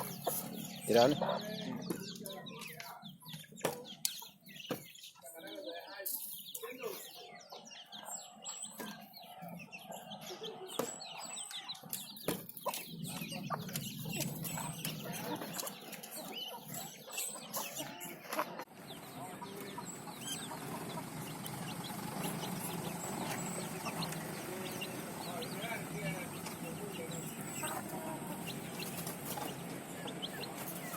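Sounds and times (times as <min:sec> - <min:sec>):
chickens clucking: 0:00.0 - 0:30.9.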